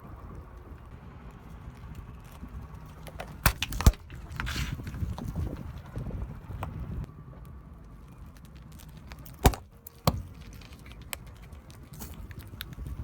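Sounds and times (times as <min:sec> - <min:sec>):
low rumble: 0:00.0 - 0:13.0
sharp cracks under tyre: 0:00.2 - 0:05.8, 0:06.5 - 0:13.0.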